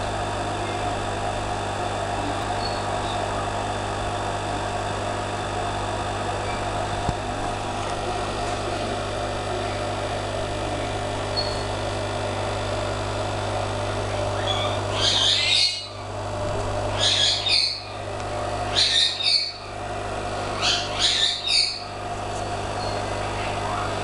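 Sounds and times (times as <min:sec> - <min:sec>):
aquarium equipment whirring: 0:00.0 - 0:24.0
low electrical hum: 0:00.0 - 0:24.0.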